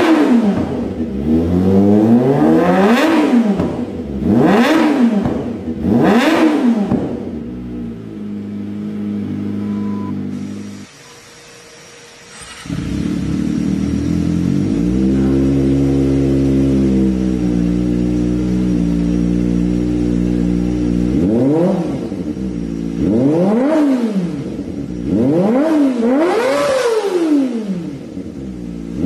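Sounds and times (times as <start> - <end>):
motorcycle engine idling and revving: 0.0 - 11.1, 11.9 - 29.0.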